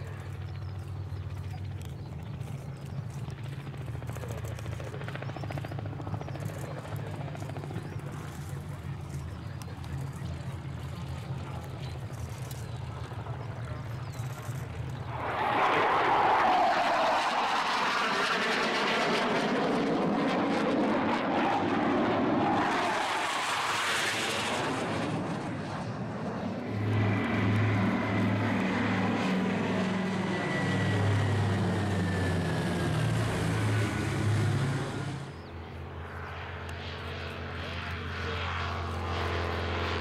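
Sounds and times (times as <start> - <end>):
jet aircraft passing overhead: 0.0 - 40.0
propeller plane engine drone: 0.0 - 40.0.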